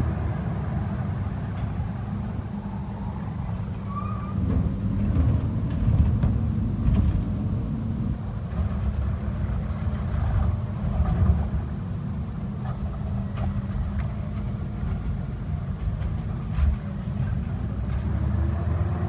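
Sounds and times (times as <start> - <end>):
garbage truck engine rumbling: 0.0 - 19.0.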